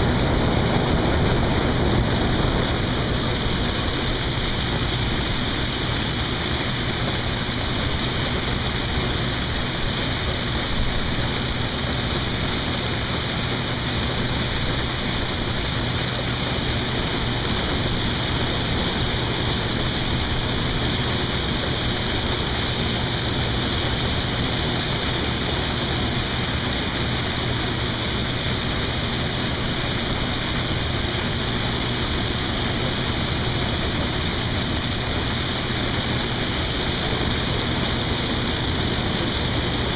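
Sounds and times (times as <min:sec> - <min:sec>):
even rushing noise: 0:00.0 - 0:39.9
low engine hum: 0:00.0 - 0:39.9.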